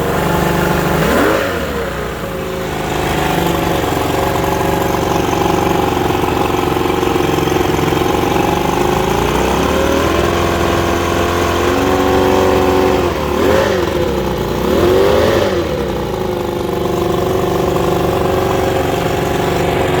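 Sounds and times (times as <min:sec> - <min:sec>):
outboard engine idling and revving: 0:00.0 - 0:20.0.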